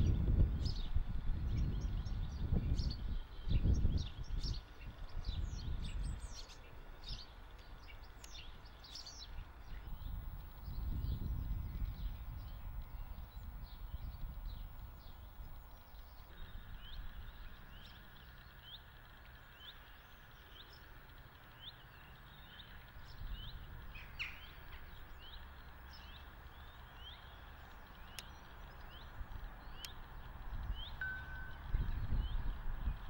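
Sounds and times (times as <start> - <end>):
faint low rumble: 0.0 - 33.0
songbird chirping: 0.0 - 33.0.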